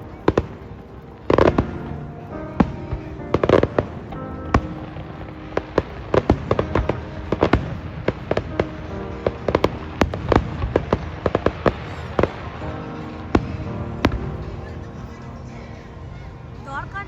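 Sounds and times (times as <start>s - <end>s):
fireworks banging: 0.0s - 17.0s
music playing: 0.0s - 17.0s.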